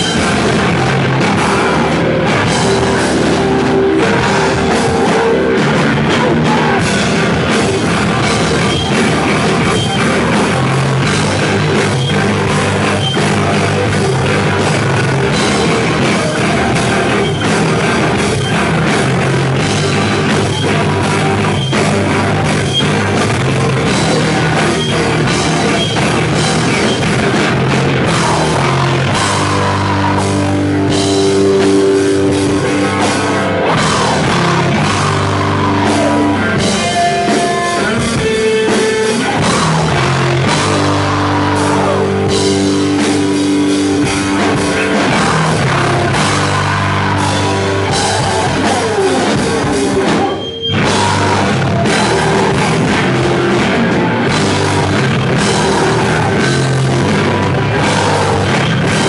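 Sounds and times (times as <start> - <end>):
bass guitar: 0.0 - 59.0
distorted electric guitars: 0.0 - 59.0
drum kit playing fast: 0.0 - 59.0.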